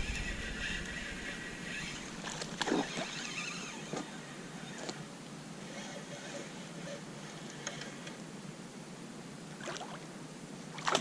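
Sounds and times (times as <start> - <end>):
water around a kayak: 0.0 - 11.0.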